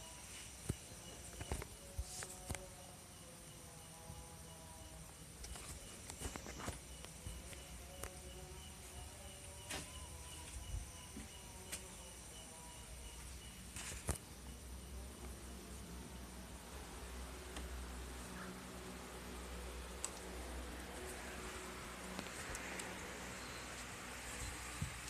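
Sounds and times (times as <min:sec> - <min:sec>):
cricket chirping: 0:00.0 - 0:25.0.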